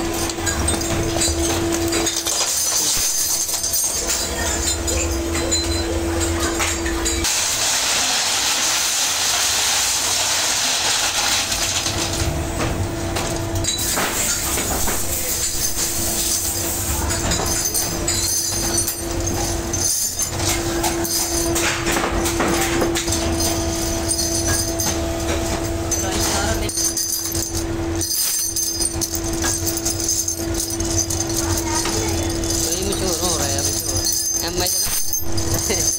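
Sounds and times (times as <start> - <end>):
metallic clatter and rattle: 0.0 - 35.9.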